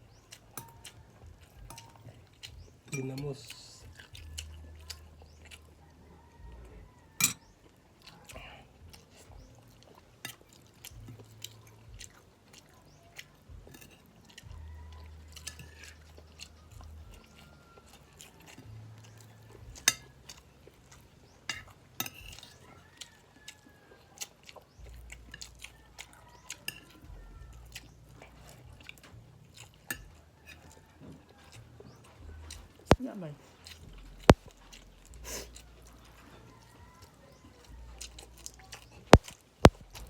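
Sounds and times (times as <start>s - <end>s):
wet chewing and smacking: 0.0s - 40.0s.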